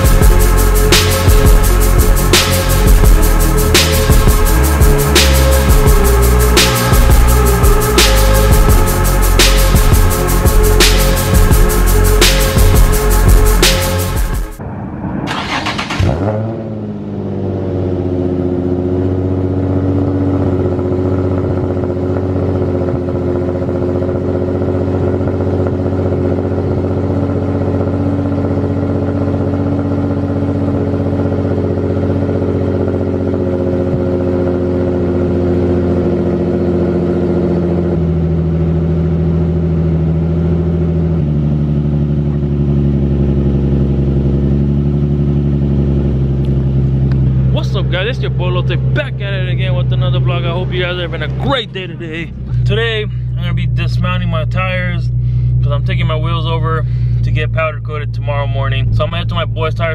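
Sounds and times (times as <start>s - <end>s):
car engine idling: 0.0s - 14.6s, 15.3s - 59.9s.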